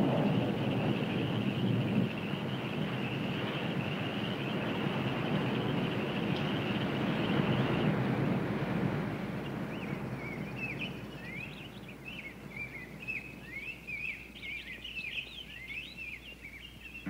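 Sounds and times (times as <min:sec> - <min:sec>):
rain hiss: 0:00.0 - 0:17.0
small birds chirping: 0:00.0 - 0:17.0.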